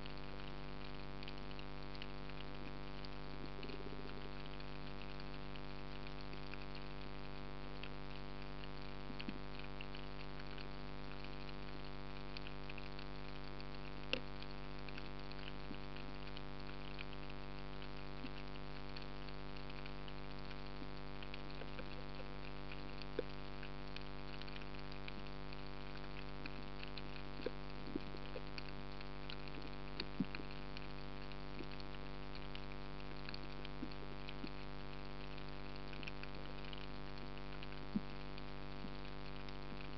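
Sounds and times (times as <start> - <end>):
crackle of tiny underwater clicks: 0.0 - 39.9
steady underwater hum: 0.0 - 39.9.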